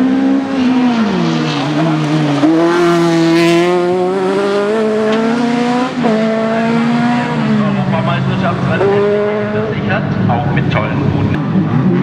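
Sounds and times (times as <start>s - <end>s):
buggy engine at high revs: 0.0s - 12.0s.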